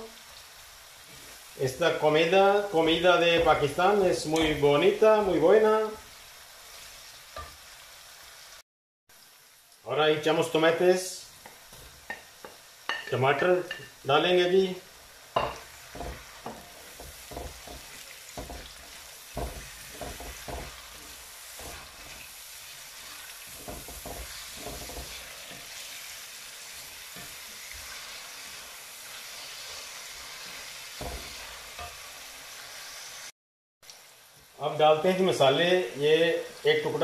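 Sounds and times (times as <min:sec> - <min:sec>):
vegetables sizzling in oil: 0:00.0 - 0:37.0.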